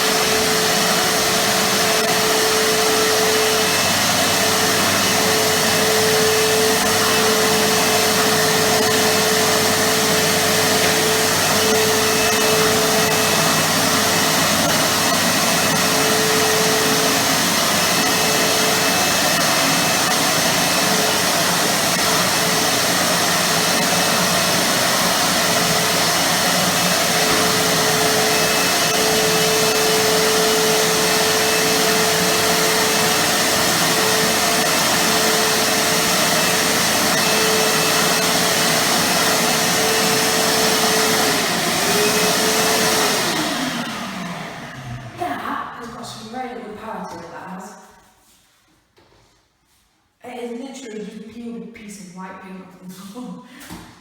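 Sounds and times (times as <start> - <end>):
vacuum cleaner running: 0.0 - 47.6.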